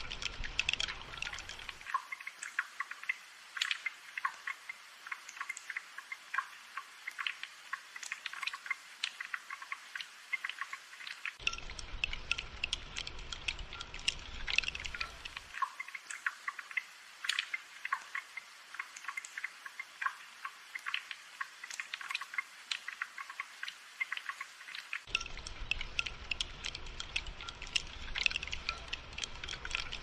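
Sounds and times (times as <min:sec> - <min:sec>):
rain dripping: 0:00.0 - 0:30.0.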